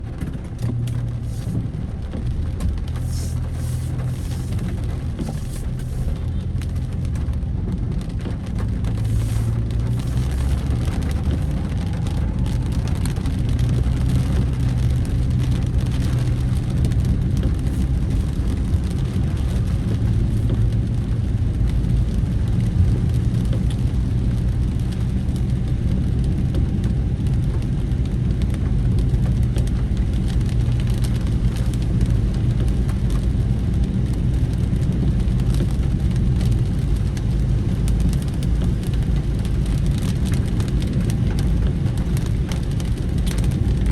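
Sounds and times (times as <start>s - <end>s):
vehicle engine and tyre rumble: 0.0s - 43.9s.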